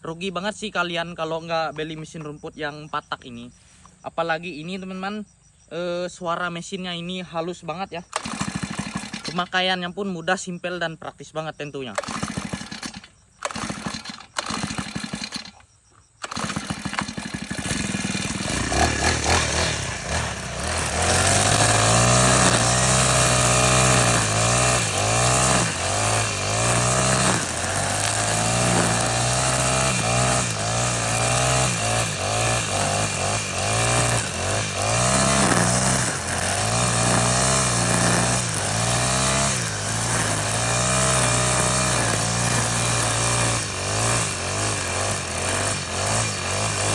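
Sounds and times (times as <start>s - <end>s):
brush cutter engine revving: 7.0s - 9.9s, 11.7s - 46.9s.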